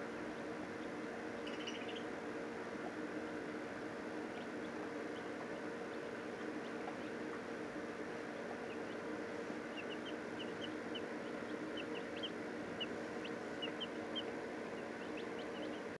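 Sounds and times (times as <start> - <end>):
steady low hum: 0.0 - 16.0
chick peeping: 0.3 - 2.2, 4.2 - 16.0.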